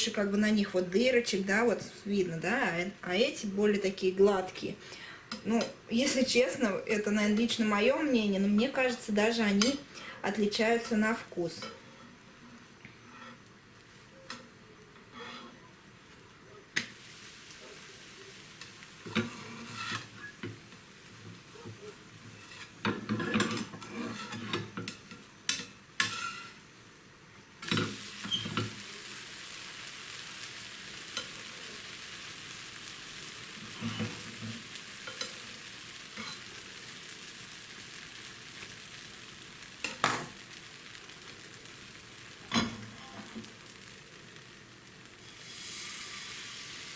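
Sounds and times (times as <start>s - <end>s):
pancakes sizzling in pans: 2.6s - 46.9s.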